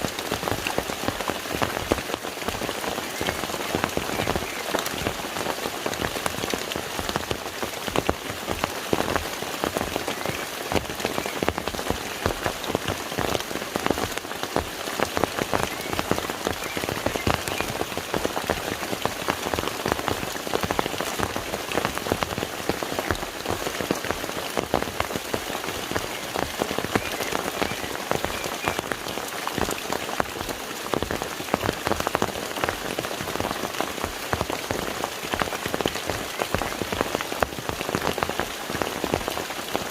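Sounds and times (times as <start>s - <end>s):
rain splashing on lake water: 0.0s - 39.9s.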